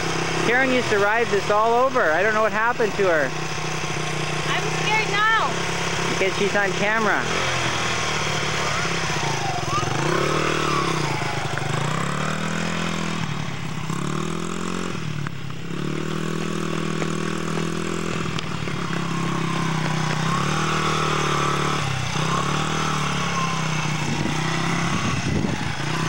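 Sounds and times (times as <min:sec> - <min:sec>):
small motorcycle engine revving: 0:00.0 - 0:26.0.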